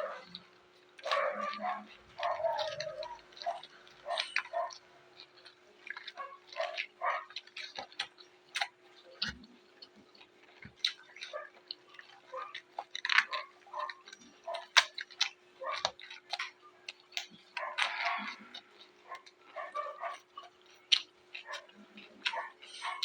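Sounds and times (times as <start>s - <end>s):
chewing crunchy raw vegetables: 0.0s - 23.0s
faint steady hum: 0.0s - 23.0s.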